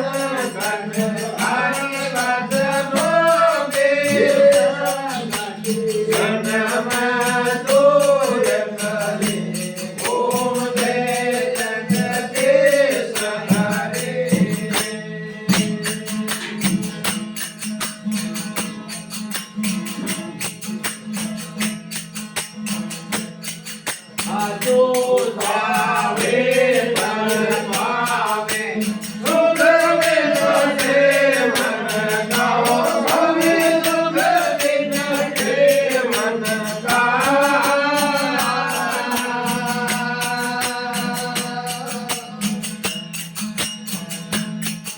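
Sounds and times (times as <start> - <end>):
man singing devotional song: 0.0 - 17.1, 23.9 - 43.0
jingling percussion: 0.0 - 44.9.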